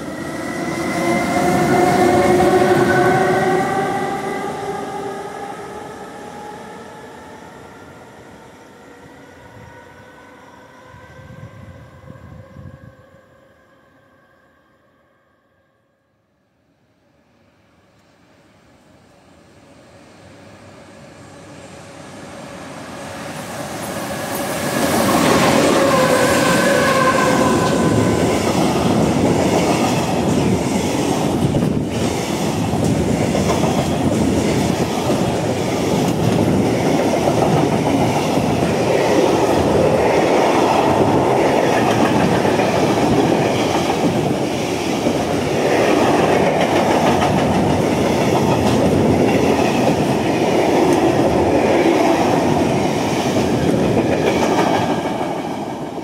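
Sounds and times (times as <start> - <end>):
freight train rumbling over rails: 0.0 - 13.3, 18.8 - 56.0.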